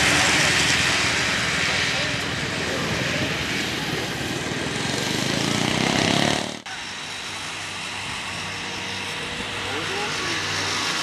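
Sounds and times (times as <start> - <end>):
snowmobile engines at full throttle: 0.0 - 11.0
steady engine hum: 0.0 - 11.0.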